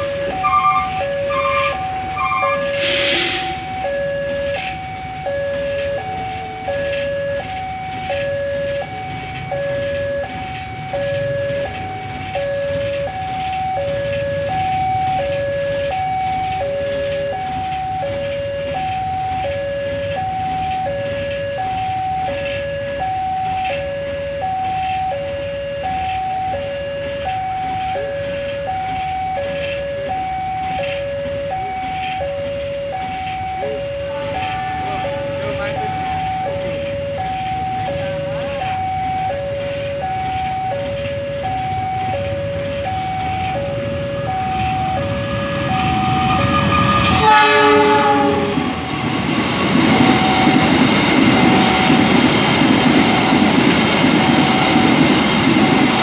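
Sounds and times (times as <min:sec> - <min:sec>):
level crossing alarm two tones: 0:00.0 - 0:48.8.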